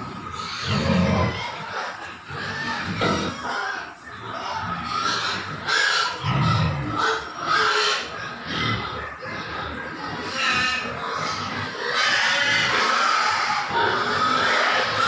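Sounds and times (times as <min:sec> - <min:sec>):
pigs grunting: 0:00.0 - 0:15.0.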